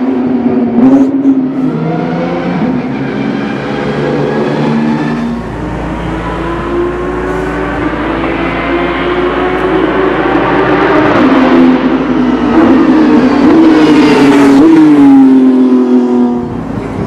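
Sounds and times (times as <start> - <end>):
race car engine passing: 0.0 - 17.0.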